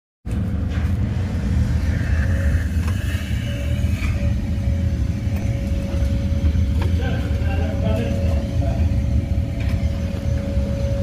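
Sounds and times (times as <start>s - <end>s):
faint steady hum: 0.3s - 11.0s
low machine rumble: 0.3s - 11.0s.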